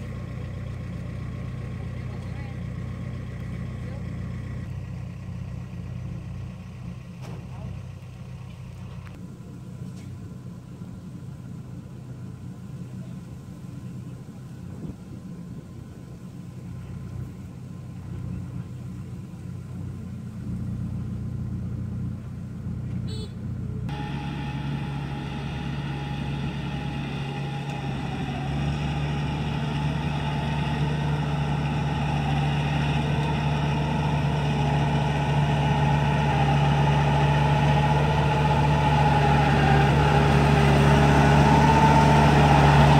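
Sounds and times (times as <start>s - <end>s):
combine harvester engine humming: 0.0s - 42.9s
tractor diesel engine rumbling: 0.0s - 42.9s.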